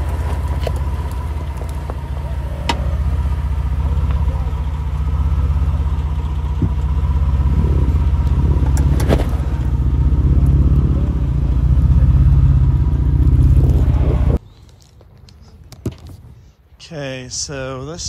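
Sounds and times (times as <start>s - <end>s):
engine droning: 0.0s - 16.4s.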